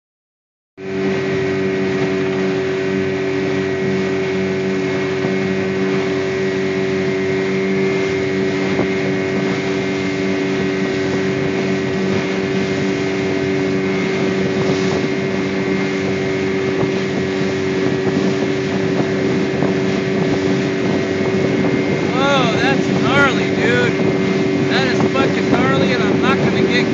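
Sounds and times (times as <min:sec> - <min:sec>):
boat engine humming: 0:00.8 - 0:26.9
wind on microphone: 0:00.9 - 0:26.9.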